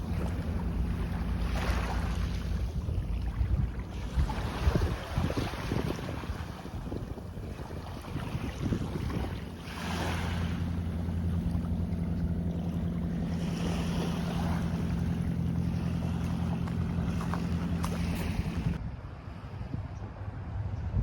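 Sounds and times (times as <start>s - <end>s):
small waves washing onto beach: 0.0s - 18.8s
boat engine drone: 0.0s - 20.7s.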